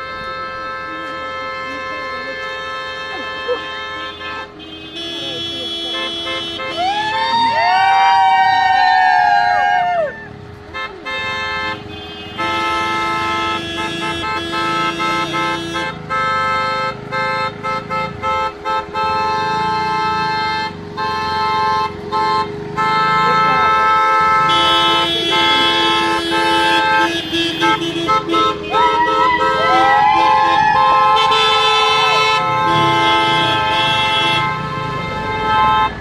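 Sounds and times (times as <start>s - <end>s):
car horns honking: 0.0s - 7.7s, 10.3s - 36.0s.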